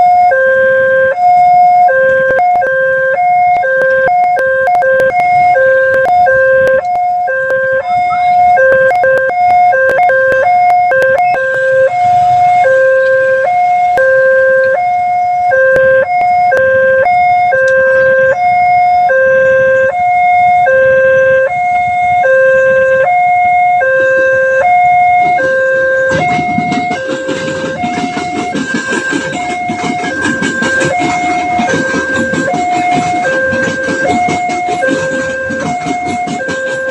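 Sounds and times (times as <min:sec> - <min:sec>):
two-tone crossing alarm: 0:00.0 - 0:36.9
broad rumble: 0:01.6 - 0:36.9.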